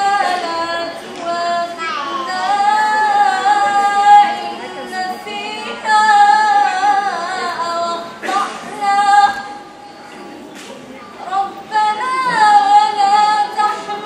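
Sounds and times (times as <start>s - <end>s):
girl reciting in melodic chant: 0.0s - 10.1s, 11.0s - 14.0s.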